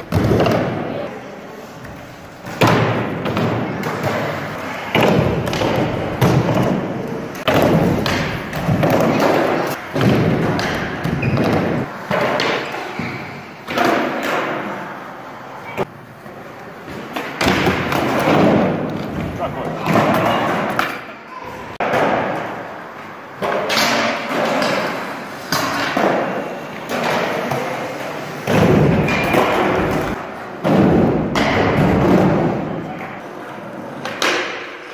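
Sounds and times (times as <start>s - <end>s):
skateboards thudding on ramps: 0.0s - 1.1s, 1.8s - 15.1s, 15.7s - 34.9s.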